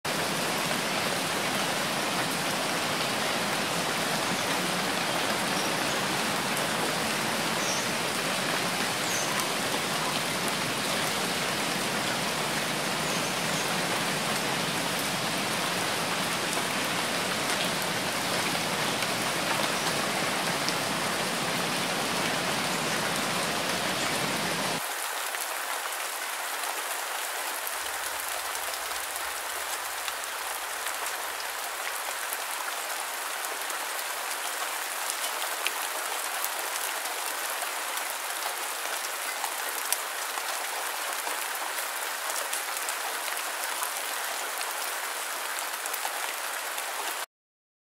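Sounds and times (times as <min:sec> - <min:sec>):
steady rain hiss: 0:00.1 - 0:47.3.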